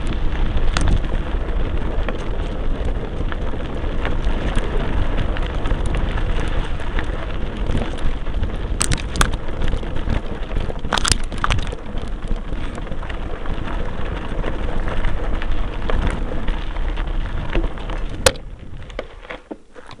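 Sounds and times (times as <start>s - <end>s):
bike and camera rattling: 0.0s - 20.0s
wind and tyre noise: 0.0s - 20.0s.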